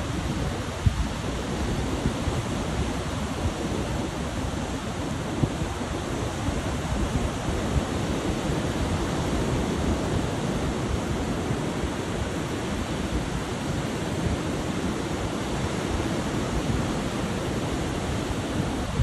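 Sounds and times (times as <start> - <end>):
surf breaking on a beach: 0.0 - 19.0
wind buffeting microphone: 0.0 - 19.0.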